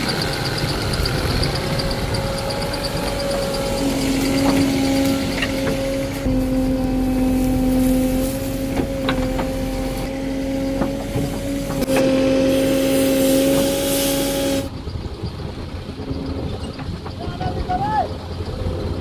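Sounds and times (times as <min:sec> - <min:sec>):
heavy machinery droning: 0:00.0 - 0:19.0
low rough running noise: 0:00.0 - 0:19.0.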